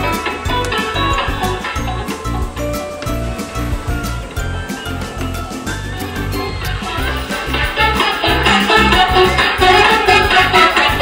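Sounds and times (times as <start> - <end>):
salsa-style song: 0.0 - 11.0
toy car music player: 0.0 - 11.0.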